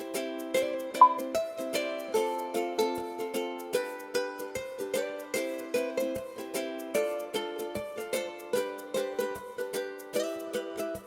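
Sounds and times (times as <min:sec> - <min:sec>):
plucked-string tune with beat: 0:00.0 - 0:11.0.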